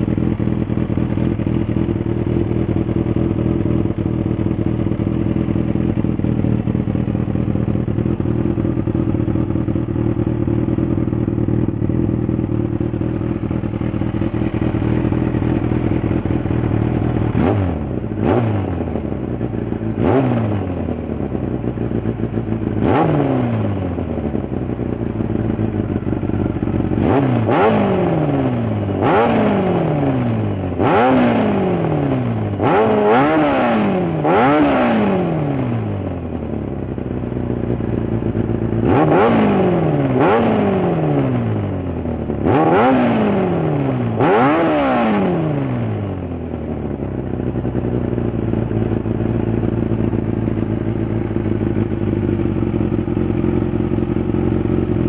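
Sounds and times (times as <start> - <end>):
motorcycle engine idling: 0.0 - 55.0
motorcycle throttle blips: 0.0 - 55.0.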